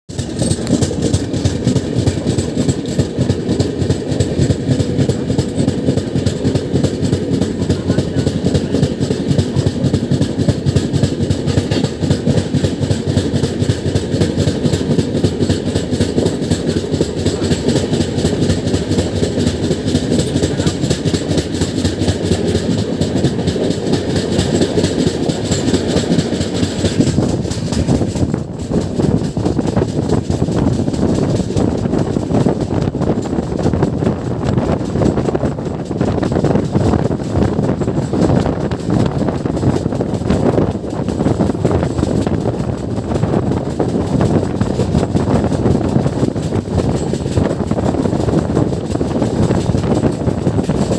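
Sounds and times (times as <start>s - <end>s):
rattle of train wheels: 0.1s - 50.9s
train rumbling at speed: 0.1s - 50.9s.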